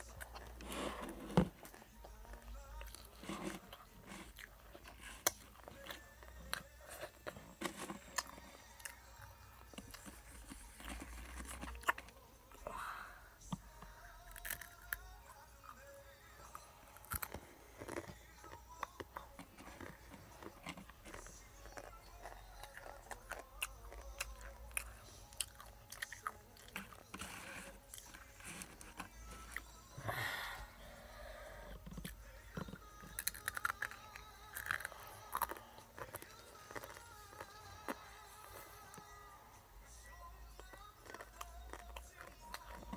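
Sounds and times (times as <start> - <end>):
person chewing crunchy food: 0.0 - 12.6, 13.5 - 30.1, 30.9 - 39.2, 40.5 - 42.9.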